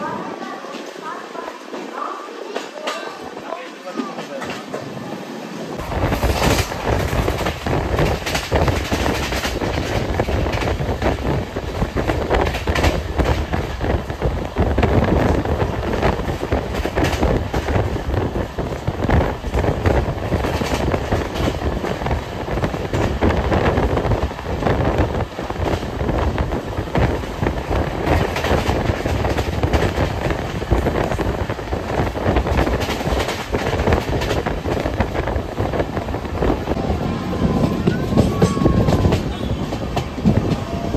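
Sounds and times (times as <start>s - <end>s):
train coach rumble: 0.0s - 40.9s.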